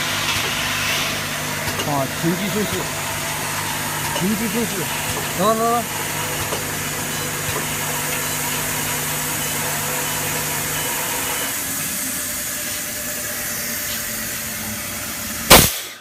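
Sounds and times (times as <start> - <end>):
machine mechanical noise: 0.0 - 15.5
low machine hum: 0.0 - 15.6.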